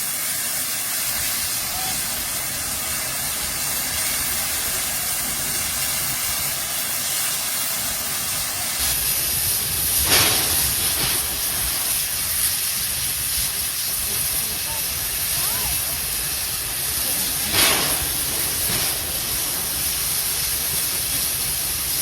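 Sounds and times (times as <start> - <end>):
steam locomotive hissing steam: 0.0 - 22.0.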